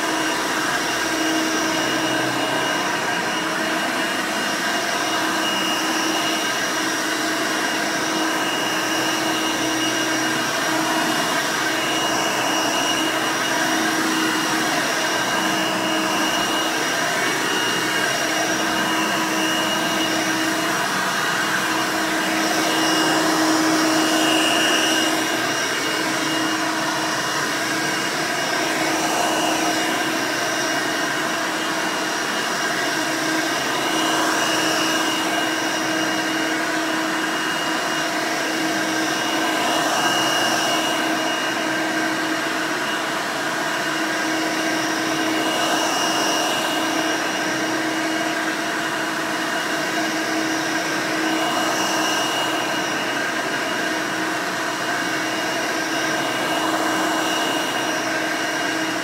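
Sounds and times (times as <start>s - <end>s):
vacuum cleaner running on carpet: 0.0s - 59.0s.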